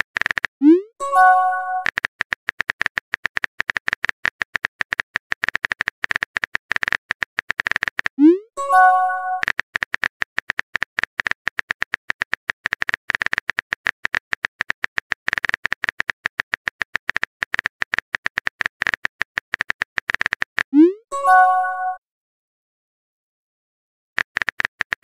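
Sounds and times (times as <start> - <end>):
keyboard typing clicks: 0.2 - 22.0, 24.2 - 25.0.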